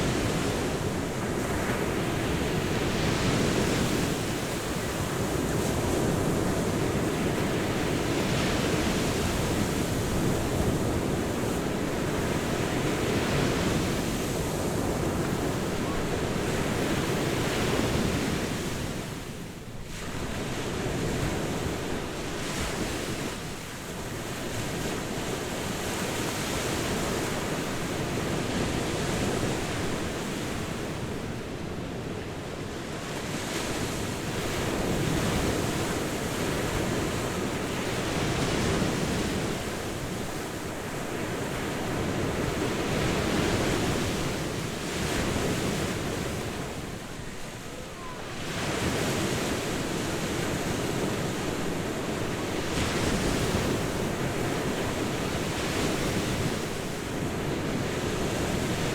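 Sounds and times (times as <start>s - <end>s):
ocean waves washing onto beach: 0.0s - 58.9s.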